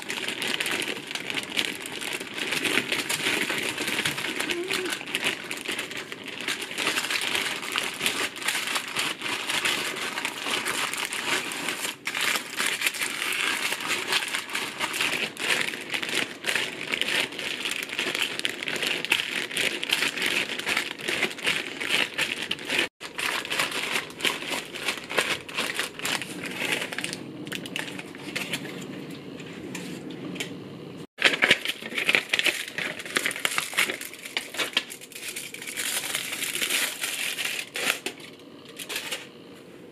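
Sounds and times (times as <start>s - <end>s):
crunchy food being crushed: 0.0s - 28.6s, 31.2s - 39.2s
plastic bag crinkling: 0.0s - 29.0s, 31.2s - 39.4s.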